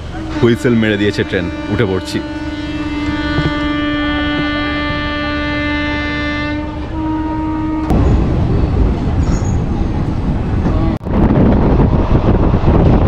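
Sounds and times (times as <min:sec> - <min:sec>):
passenger train running: 0:00.0 - 0:13.0.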